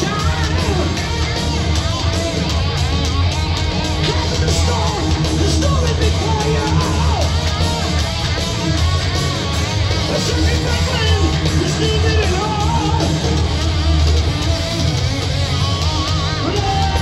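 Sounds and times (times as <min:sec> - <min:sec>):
live heavy metal band: 0:00.0 - 0:17.0.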